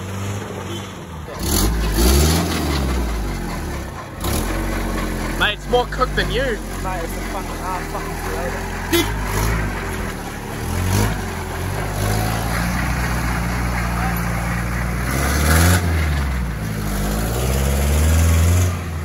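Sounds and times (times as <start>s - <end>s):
truck engine revving: 0.0s - 19.0s
tyres splashing through mud: 0.0s - 19.0s.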